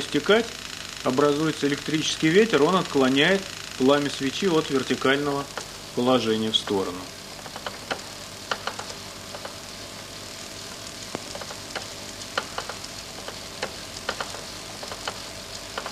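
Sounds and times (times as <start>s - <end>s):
electrostatic machine hiss: 0.0s - 15.9s
sharp electric clicks and crackles: 0.0s - 15.9s.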